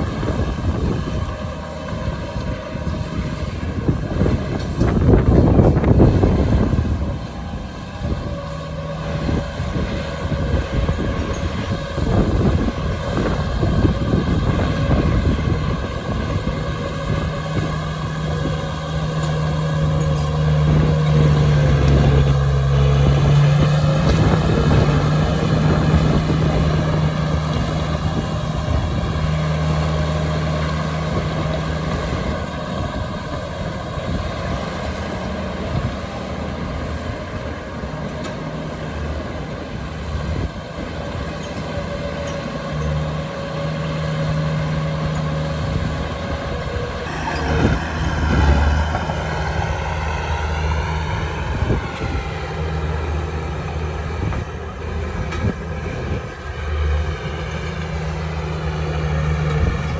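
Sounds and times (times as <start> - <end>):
heavy diesel engine rumbling: 0.0 - 59.9.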